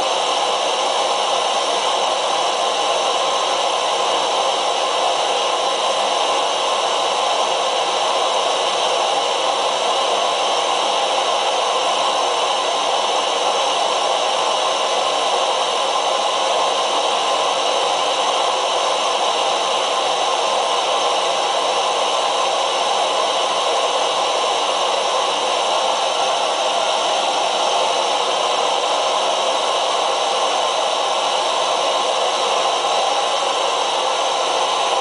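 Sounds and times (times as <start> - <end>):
gas stove burner hissing: 0.0 - 35.0.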